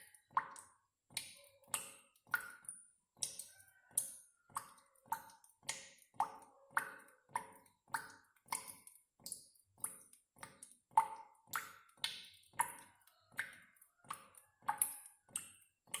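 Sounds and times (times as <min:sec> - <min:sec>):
water drops plopping: 0:00.0 - 0:16.0.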